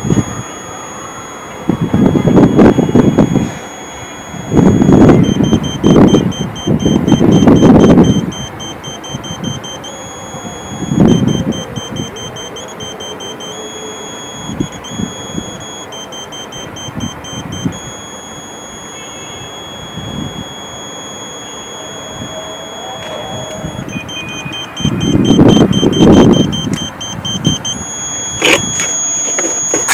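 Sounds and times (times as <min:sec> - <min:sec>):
high pointing beep tone: 0:00.0 - 0:29.9.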